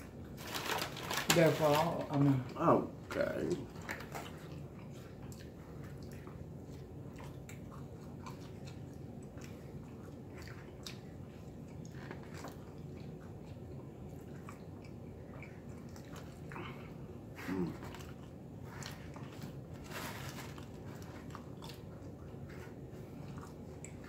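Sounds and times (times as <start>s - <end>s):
person chewing pizza crust: 0.0s - 24.0s.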